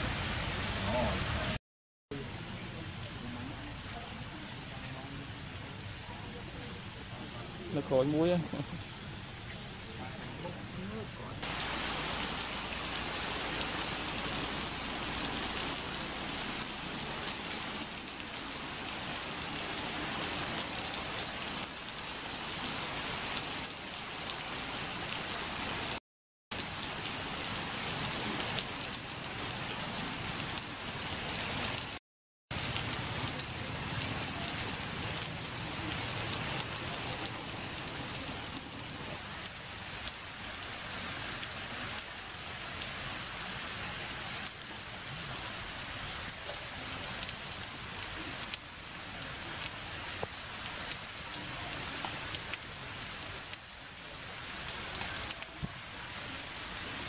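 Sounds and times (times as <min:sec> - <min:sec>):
heavy rain falling: 0:00.0 - 0:01.6, 0:02.2 - 0:57.0.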